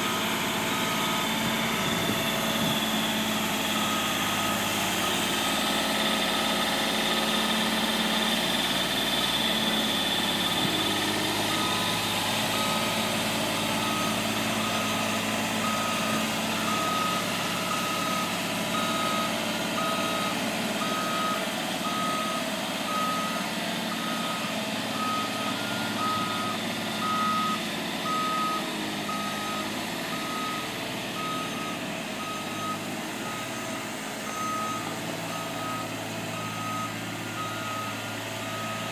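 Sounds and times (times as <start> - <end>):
boom lift engine humming: 0.0 - 38.9.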